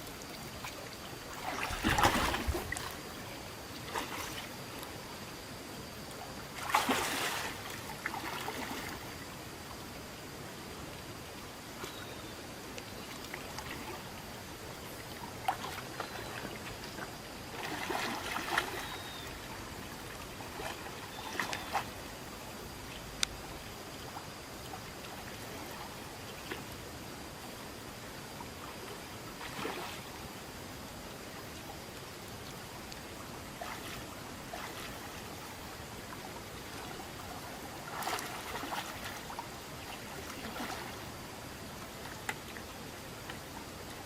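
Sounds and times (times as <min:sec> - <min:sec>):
water trickling and splashing: 0:00.0 - 0:10.0, 0:10.6 - 0:44.0
steady background hiss: 0:00.0 - 0:44.0.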